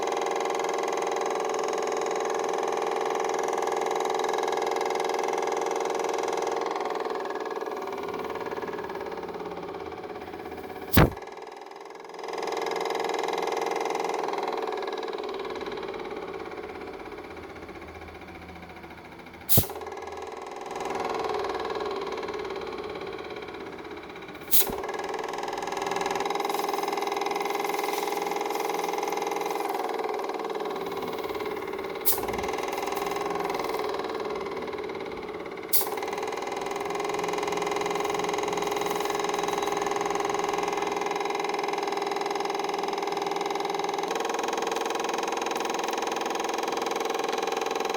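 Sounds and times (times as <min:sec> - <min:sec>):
air compressor motor hum: 0:00.0 - 0:11.2, 0:11.8 - 0:47.9.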